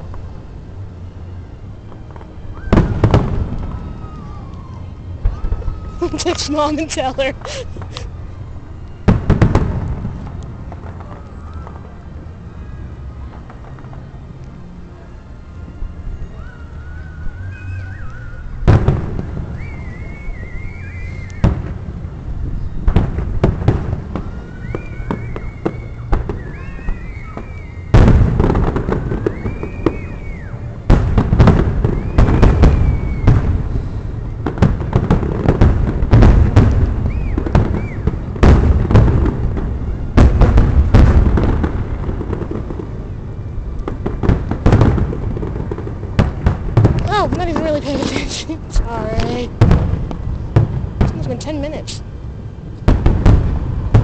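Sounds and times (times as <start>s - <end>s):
fireworks booming and cracking: 1.7s - 12.0s, 17.5s - 54.0s.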